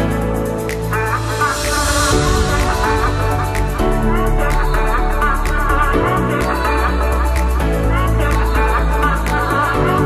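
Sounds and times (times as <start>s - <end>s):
electronic backing track: 0.0s - 10.0s.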